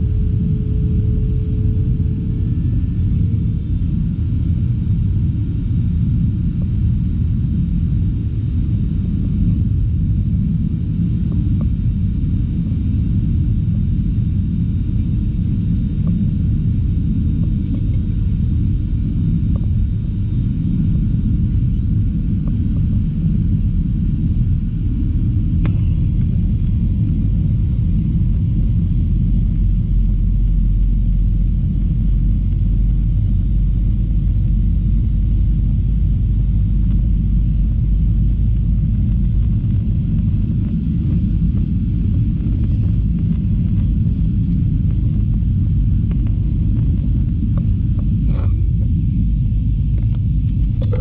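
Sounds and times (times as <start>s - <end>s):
airplane cabin rumble: 0.0s - 51.0s.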